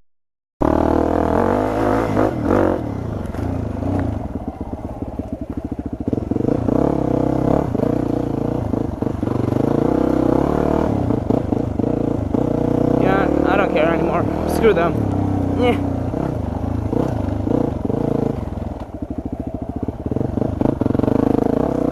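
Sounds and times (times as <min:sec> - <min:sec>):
dirt bike engine revving: 0:00.6 - 0:21.9.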